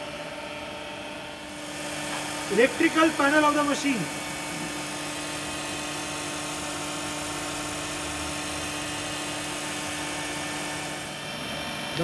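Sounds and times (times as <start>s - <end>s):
grinder machine whir: 0.0s - 12.0s.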